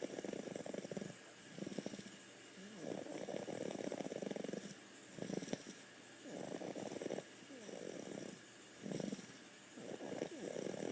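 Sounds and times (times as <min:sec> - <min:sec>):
rattling snoring: 0:00.0 - 0:10.9.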